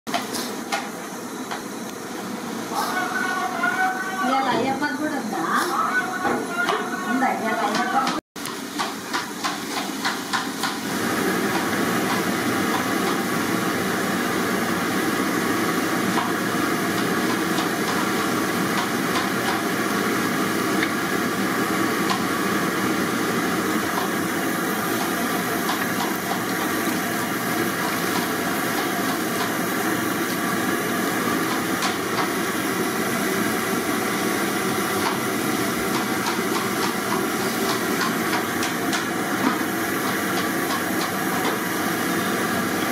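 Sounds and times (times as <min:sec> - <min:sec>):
potatoes deep-frying in oil: 0:00.1 - 0:42.9.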